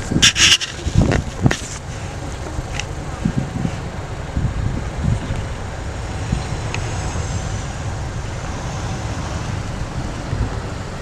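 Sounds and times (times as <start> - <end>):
high engine whine: 0.0 - 11.0
jet engines passing: 0.0 - 11.0.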